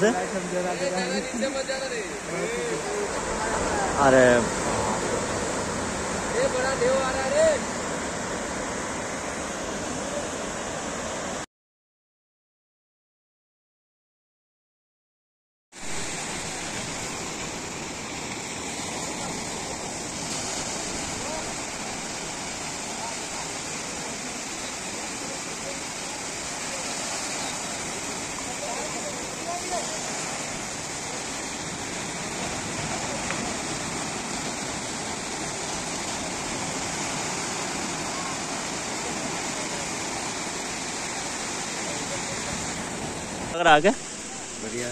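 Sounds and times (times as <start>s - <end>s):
waves breaking on concrete: 0.0s - 9.2s, 15.8s - 44.9s.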